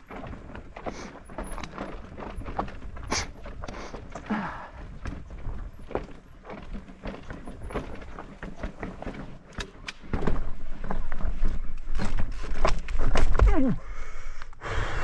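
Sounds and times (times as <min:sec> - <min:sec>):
mountain bike clattering: 0:00.0 - 0:13.6.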